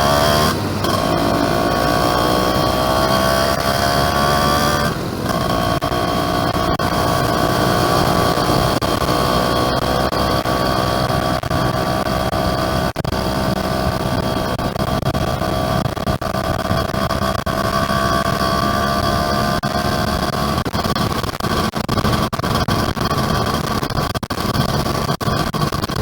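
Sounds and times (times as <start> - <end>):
two-stroke engine pulling: 0.0 - 26.0.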